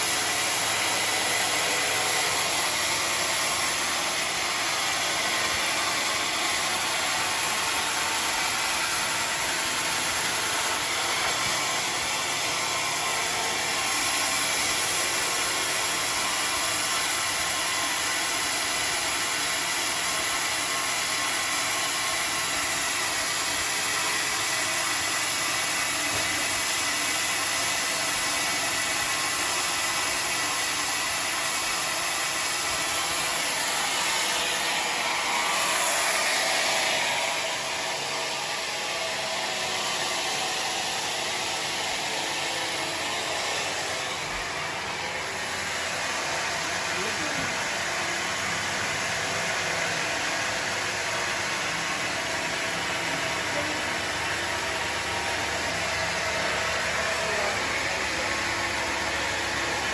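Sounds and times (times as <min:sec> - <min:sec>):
sawmill machine whirring: 0:00.0 - 0:59.9.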